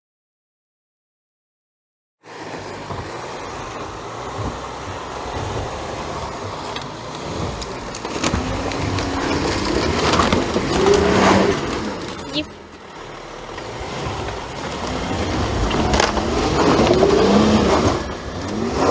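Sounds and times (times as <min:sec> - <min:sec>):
car engine running low: 0:02.2 - 0:18.9
squealing scrape: 0:02.6 - 0:18.9.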